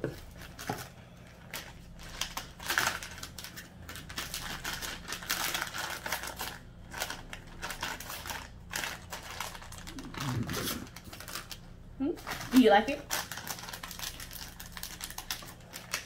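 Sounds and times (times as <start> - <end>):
face mask packaging crinkling: 0.1 - 16.0.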